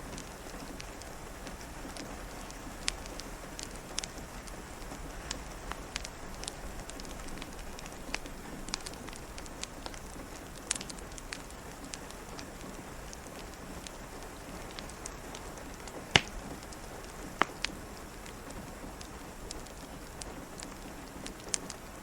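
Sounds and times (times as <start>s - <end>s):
rain hissing: 0.0s - 22.0s
wood fire crackling: 0.0s - 22.0s.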